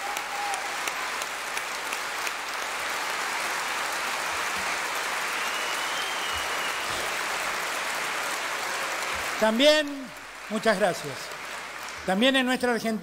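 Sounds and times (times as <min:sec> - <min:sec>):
sharp individual claps: 0:00.0 - 0:12.2
large crowd applauding: 0:00.0 - 0:13.0.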